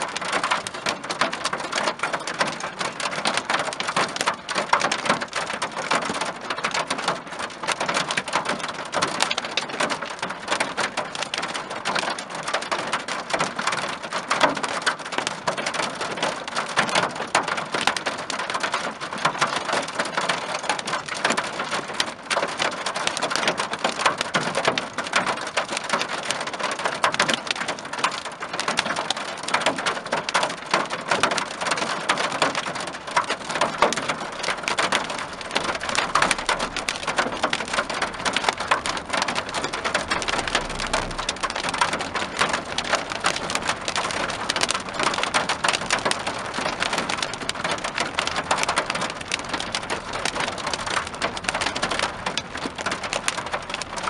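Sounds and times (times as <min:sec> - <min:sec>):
hail and rain on a car: 0:00.0 - 0:54.0.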